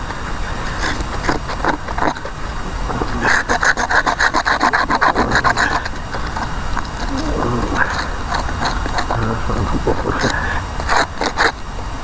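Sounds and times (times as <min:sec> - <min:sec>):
rhythmic scraping: 0:00.0 - 0:12.0.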